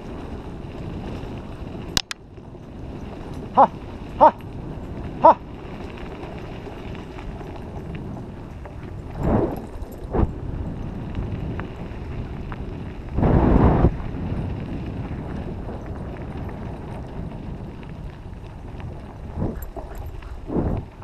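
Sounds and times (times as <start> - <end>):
wheels rumbling on dirt: 0.0 - 21.0
wind on microphone: 0.0 - 21.0.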